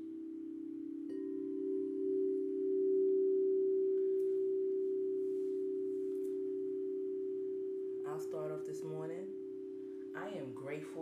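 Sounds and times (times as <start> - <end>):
singing bowl ringing: 0.0 - 11.0.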